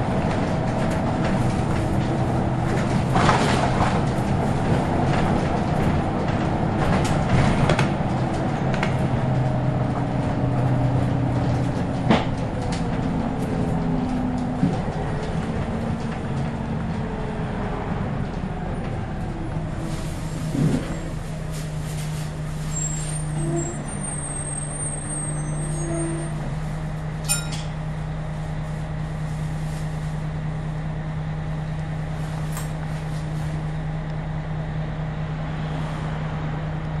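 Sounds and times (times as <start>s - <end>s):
bus diesel engine drone: 0.0s - 37.0s.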